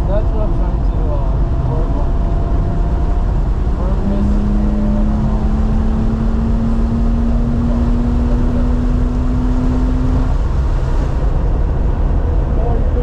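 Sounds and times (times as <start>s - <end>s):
car engine accelerating: 0.0s - 13.0s
road and tyre rumble: 0.0s - 13.0s.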